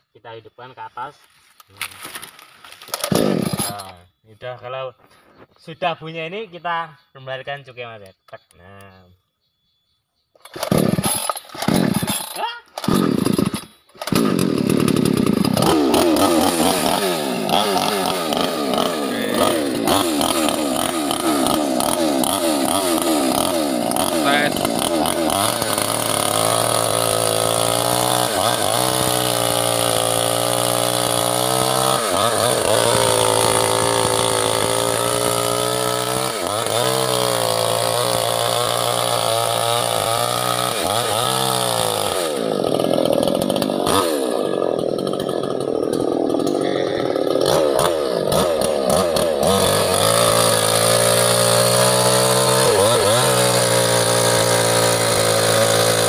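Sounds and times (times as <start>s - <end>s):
mini chainsaw engine revving: 2.0s - 3.9s, 10.4s - 56.0s.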